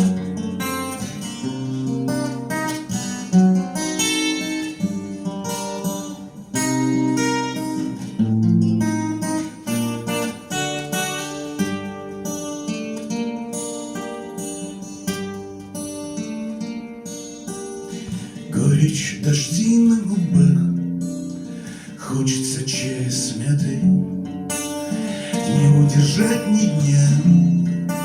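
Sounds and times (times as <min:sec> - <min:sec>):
acoustic guitar plucked and strummed: 0:00.0 - 0:28.0.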